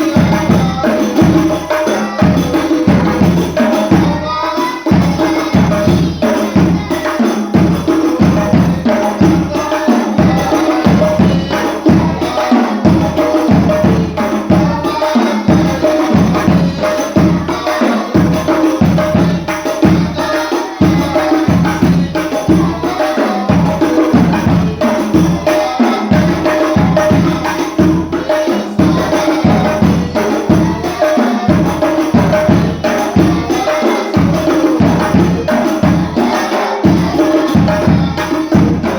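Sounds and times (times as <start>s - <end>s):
frame drums playing rhythm: 0.0s - 38.9s
jingling hand drums: 0.0s - 38.9s.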